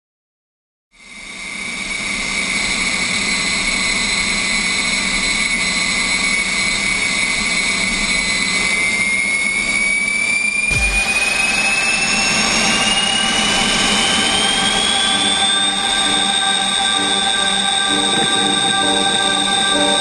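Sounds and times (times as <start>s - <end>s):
turbine engine whine and roar: 1.0s - 20.0s.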